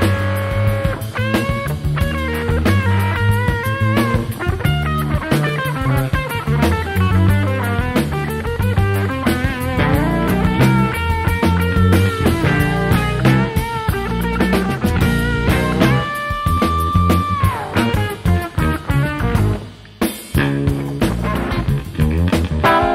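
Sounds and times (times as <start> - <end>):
electric bass line: 0.0 - 22.9
electric guitar melody: 0.0 - 22.9
steady drums: 0.0 - 22.9.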